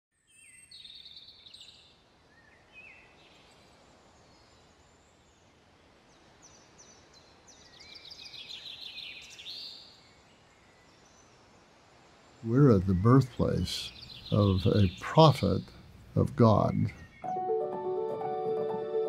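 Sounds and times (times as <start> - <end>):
songbirds chirping: 0.1 - 19.0
faint outdoor air hiss: 0.2 - 19.0.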